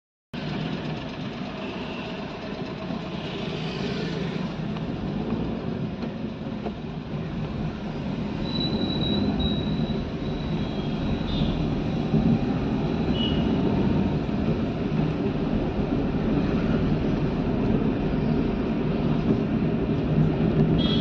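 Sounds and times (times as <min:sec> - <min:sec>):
road traffic rumble: 0:00.4 - 0:21.0.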